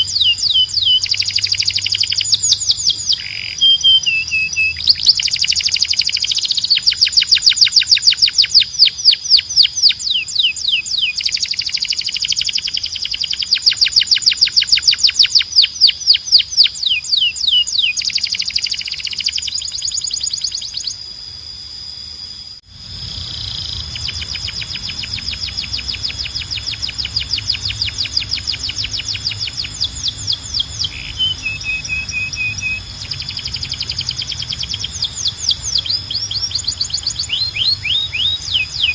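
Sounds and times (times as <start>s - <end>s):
canary singing trills: 0.0s - 21.1s, 22.7s - 38.9s.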